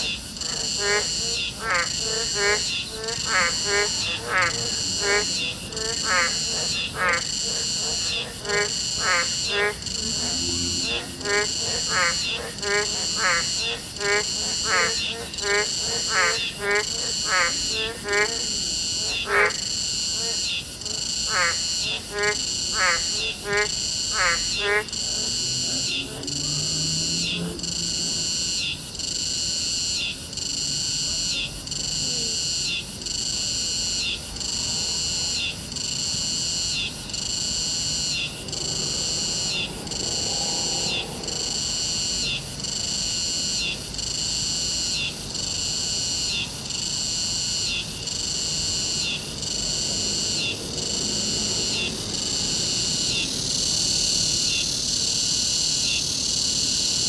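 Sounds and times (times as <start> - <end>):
insects chirring in chorus: 0.0 - 57.0.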